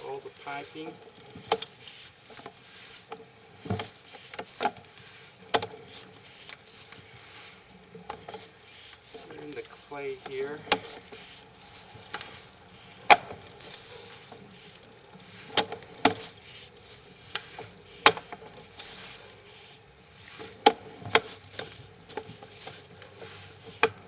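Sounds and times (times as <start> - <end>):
faint steady hiss: 0.0 - 20.6.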